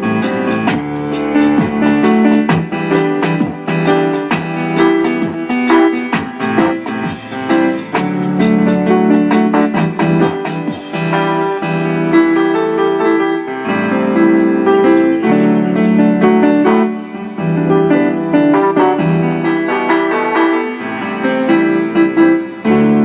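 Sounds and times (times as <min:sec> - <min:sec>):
keyboard music with chords: 0:00.0 - 0:23.0.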